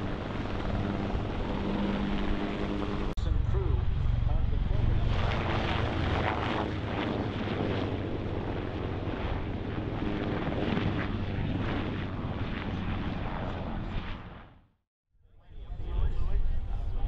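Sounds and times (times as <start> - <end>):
helicopter rotor and turbine noise: 0.0 - 17.0.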